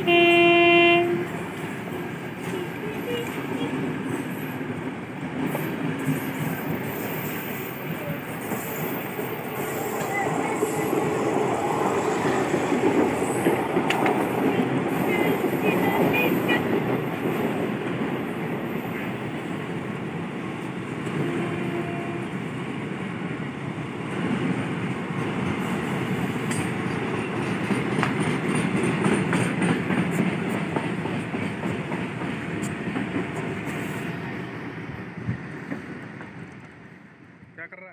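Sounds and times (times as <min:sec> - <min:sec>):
train wheels clattering on rails: 0:01.2 - 0:19.5, 0:24.1 - 0:36.9.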